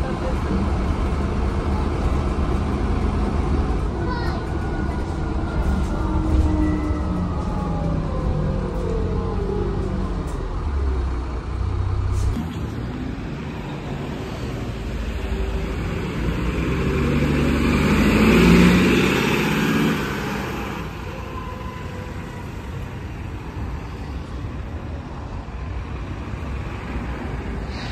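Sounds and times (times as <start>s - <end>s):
bus engine: 0.0s - 27.9s
road traffic: 0.0s - 27.9s.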